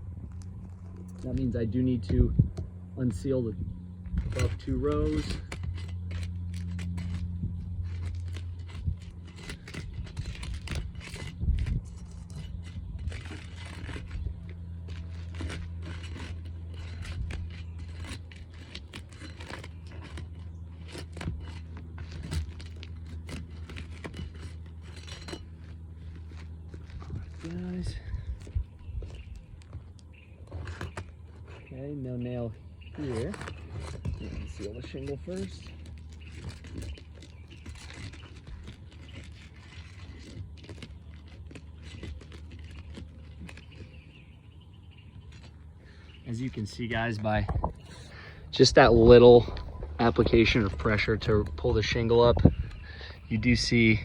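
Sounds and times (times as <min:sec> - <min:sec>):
steady low hum: 0:00.0 - 0:54.0
roof shingles scraping and tearing: 0:00.3 - 0:54.0.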